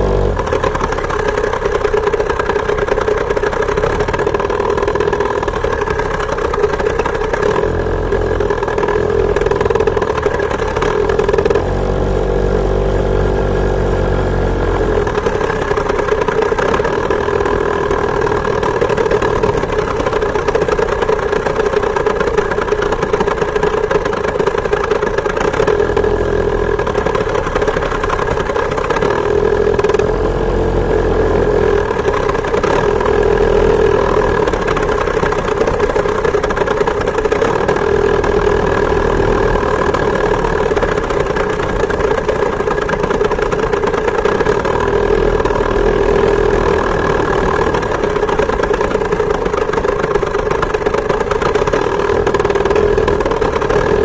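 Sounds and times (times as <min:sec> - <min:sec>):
two-stroke engine running: 0:00.0 - 0:54.0.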